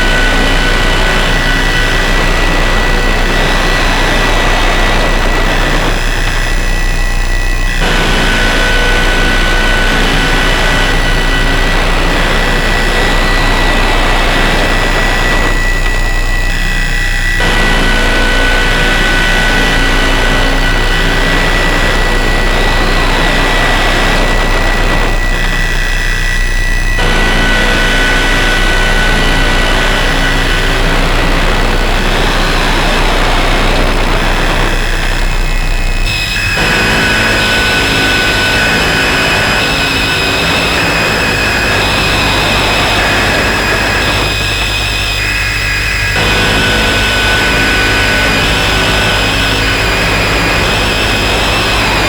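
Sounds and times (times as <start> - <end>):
distorted noise wall: 0.0 - 52.0
low hum: 0.0 - 52.0.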